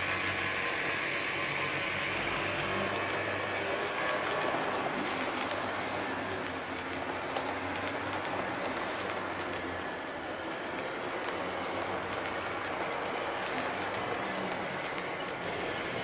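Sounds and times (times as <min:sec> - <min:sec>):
model train wheels clicking on rails: 0:00.0 - 0:16.0.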